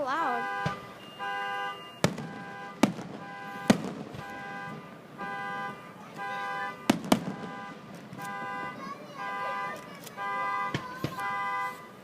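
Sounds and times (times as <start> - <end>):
car alarm on-off tone: 0.1 - 12.0
firework bangs: 0.4 - 11.9.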